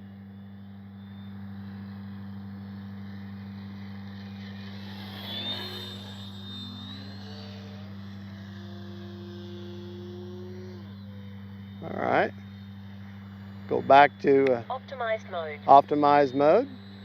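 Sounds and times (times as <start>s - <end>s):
model plane motor whining: 0.0s - 17.0s
steady low hum: 0.0s - 17.0s.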